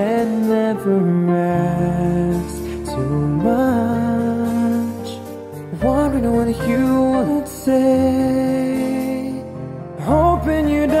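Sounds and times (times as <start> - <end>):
music with long held notes: 0.0 - 11.0.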